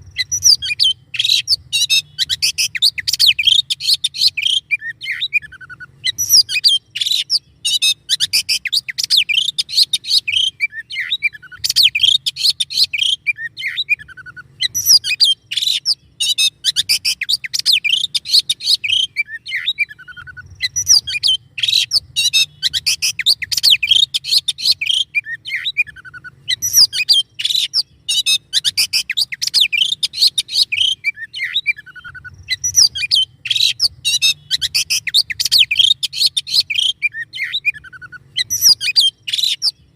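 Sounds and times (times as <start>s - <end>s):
faint low hum: 0.0s - 39.9s
songbird chirping and trilling: 0.0s - 39.9s.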